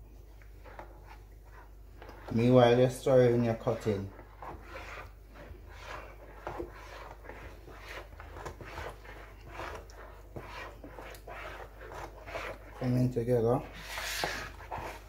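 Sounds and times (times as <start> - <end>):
metal utensil stirring batter: 0.0 - 15.0.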